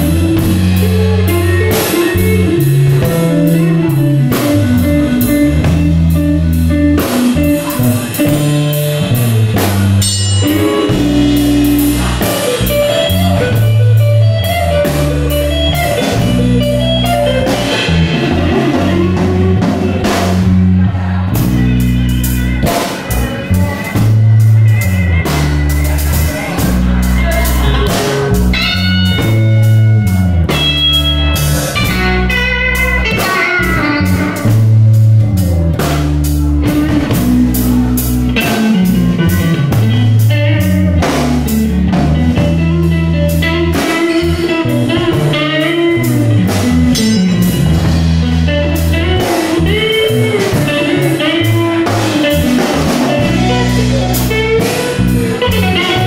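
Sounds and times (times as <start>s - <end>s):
blues-rock band playing: 0.0s - 56.0s
electric guitar bending notes: 0.0s - 56.0s.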